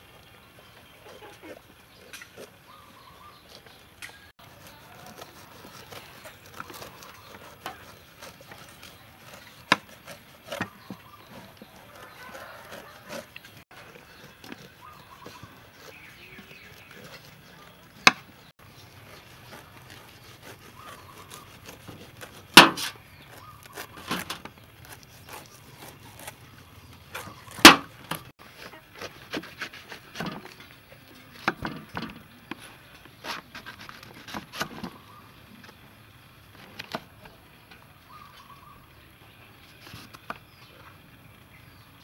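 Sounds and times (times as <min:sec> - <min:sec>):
knife scraping fruit: 0:00.8 - 0:35.1.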